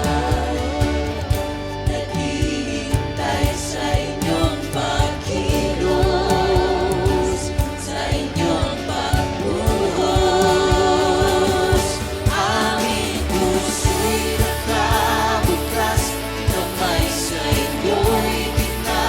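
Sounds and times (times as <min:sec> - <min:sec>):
people singing: 0:00.0 - 0:19.0
steady drum beat: 0:00.0 - 0:19.0
worship band playing: 0:00.0 - 0:19.0.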